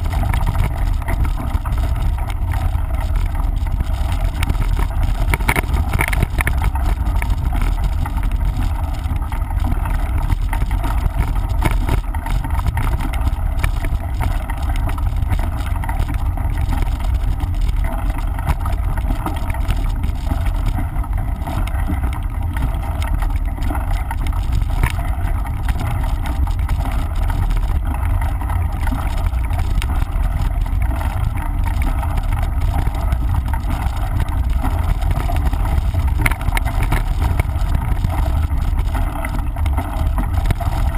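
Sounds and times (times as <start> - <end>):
bike rattling and clicking: 0.0 - 40.9
wind rumbling on microphone: 0.0 - 40.9.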